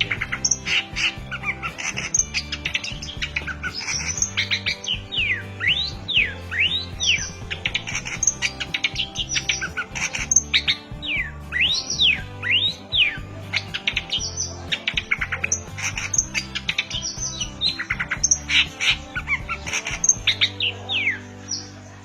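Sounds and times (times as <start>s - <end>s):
background music with low beat: 0.0s - 22.0s
bird chattering song: 0.0s - 22.0s.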